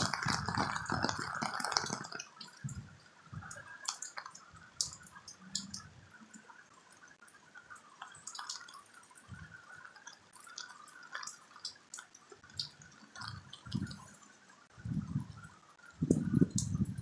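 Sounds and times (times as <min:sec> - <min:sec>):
drops dripping and tapping: 0:00.0 - 0:17.0
rain falling: 0:00.0 - 0:17.0.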